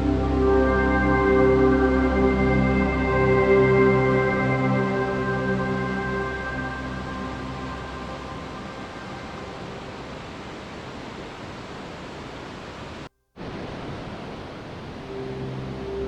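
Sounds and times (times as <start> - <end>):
pink noise hiss: 0.0 - 16.0.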